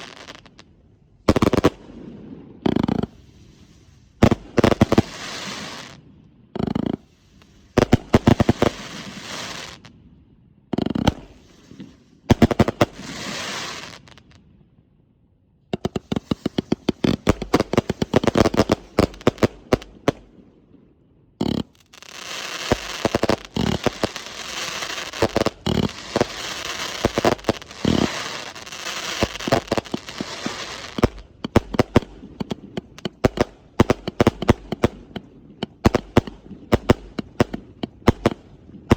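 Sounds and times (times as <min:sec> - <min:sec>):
firework shots: 0:00.0 - 0:00.6, 0:01.3 - 0:09.9, 0:10.7 - 0:14.4, 0:15.7 - 0:38.9
dense firework crackling: 0:00.0 - 0:09.9, 0:10.8 - 0:14.4, 0:15.8 - 0:38.9.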